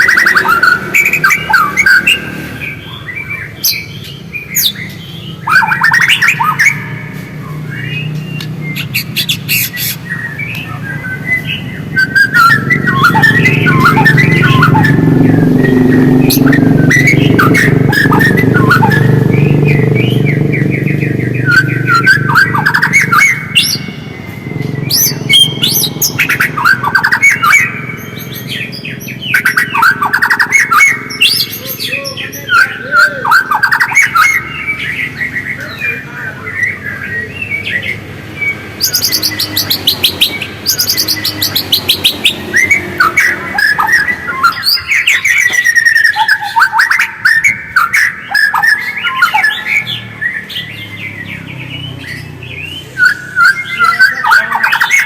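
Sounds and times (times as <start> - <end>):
bird singing whistled phrases: 0.0 - 55.0.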